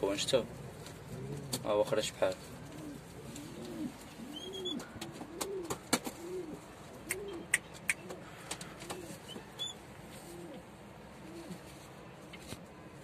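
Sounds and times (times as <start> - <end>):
pigeons cooing: 0.0 - 12.2.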